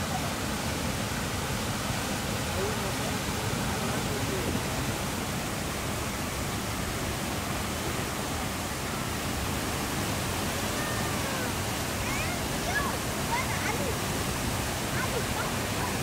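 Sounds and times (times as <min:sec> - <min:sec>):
waterfall rushing over rock: 0:00.0 - 0:16.0.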